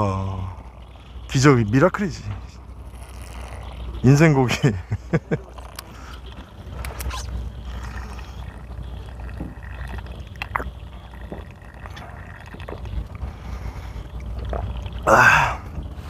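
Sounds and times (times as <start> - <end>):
boat engine rumble: 0.0 - 16.0
water sloshing and dripping: 0.0 - 16.0.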